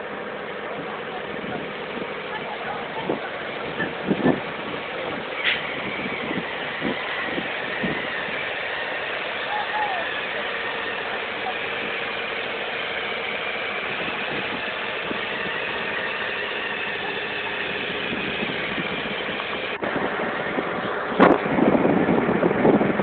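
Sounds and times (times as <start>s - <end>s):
rough burst of noise: 0.0s - 23.0s
truck engine idling: 0.0s - 23.0s.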